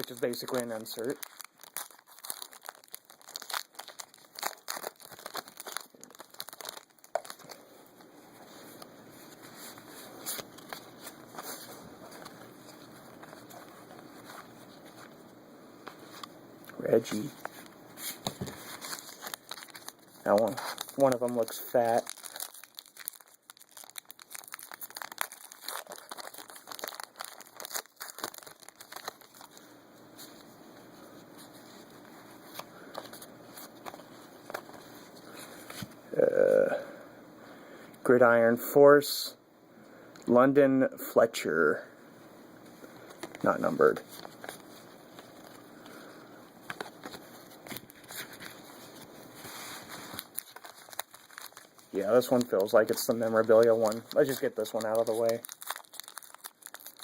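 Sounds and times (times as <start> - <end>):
card wrappers crinkling: 0.0 - 36.7, 42.6 - 57.0
cards rustling: 0.0 - 36.7, 42.6 - 57.0.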